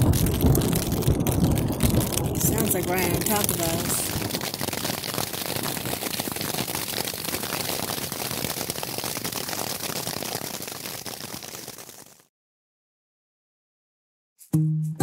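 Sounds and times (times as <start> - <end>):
rain pattering: 0.0 - 12.3.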